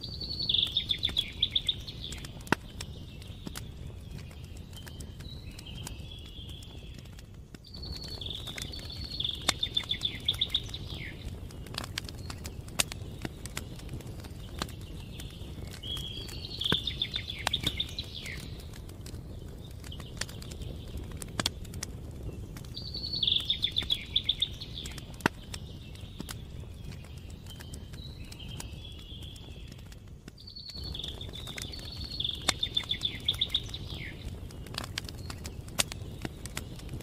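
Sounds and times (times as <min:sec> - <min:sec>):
campfire crackling and popping: 0:00.0 - 0:37.0
songbird trilled song: 0:00.0 - 0:37.0.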